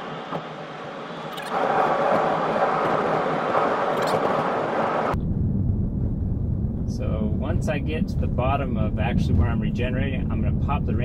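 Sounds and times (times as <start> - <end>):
low rumble: 0.0 - 11.0
tyre and wind noise in car: 0.0 - 11.0.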